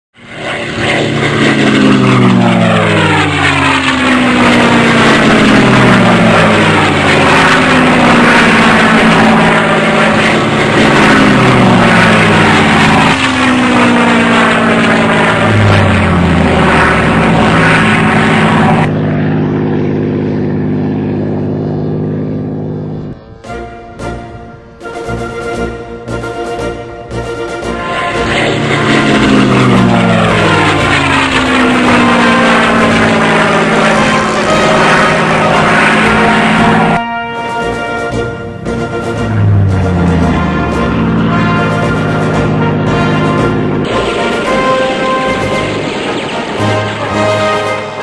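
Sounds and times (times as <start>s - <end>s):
low engine drone: 0.1s - 48.0s
model planes flying past: 0.2s - 48.0s.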